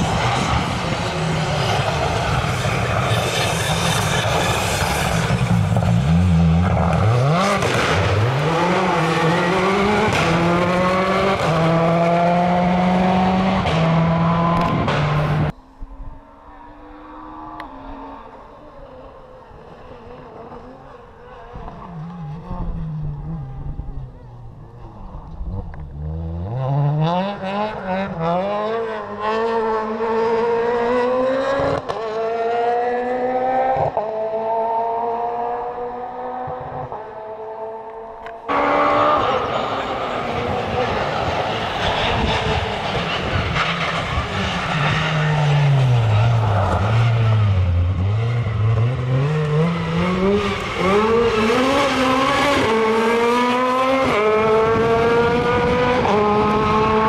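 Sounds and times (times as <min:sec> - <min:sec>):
rally car engine at high revs: 0:00.0 - 0:15.5, 0:16.5 - 0:57.0.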